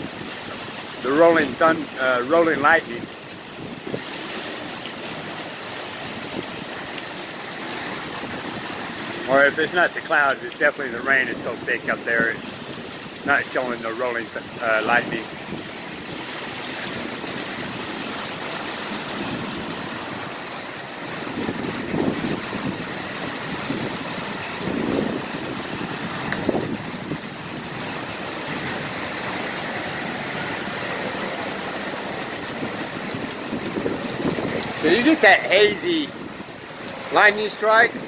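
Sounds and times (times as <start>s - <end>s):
heavy rain hissing: 0.0s - 38.0s.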